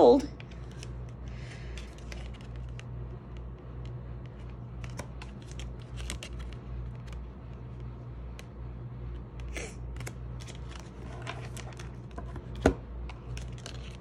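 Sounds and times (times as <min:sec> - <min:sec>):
steady low hum: 0:00.0 - 0:14.0
cards sliding and rustling: 0:00.4 - 0:14.0.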